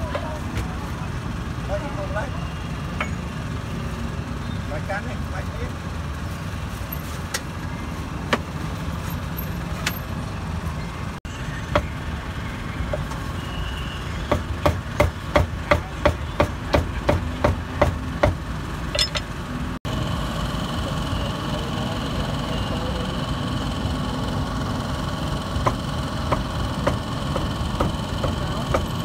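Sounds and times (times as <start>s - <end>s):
low rumble of street engines: 0.0s - 29.0s.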